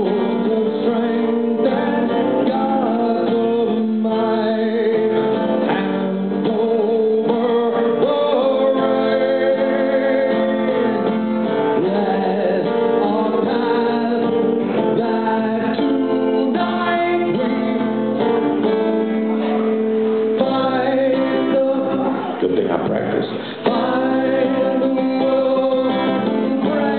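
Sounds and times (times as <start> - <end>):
person singing: 0.0 - 22.4, 23.3 - 26.9
acoustic guitar: 0.0 - 26.9.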